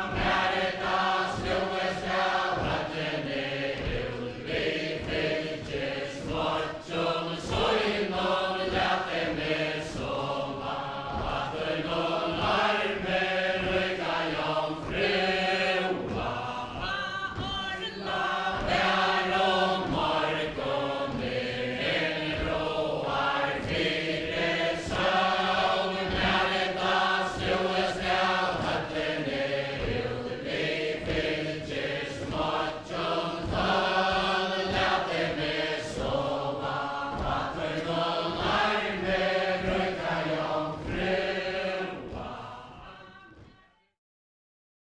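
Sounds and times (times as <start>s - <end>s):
crowd singing in unison: 0.0s - 43.6s
feet stepping on floor: 0.0s - 43.6s.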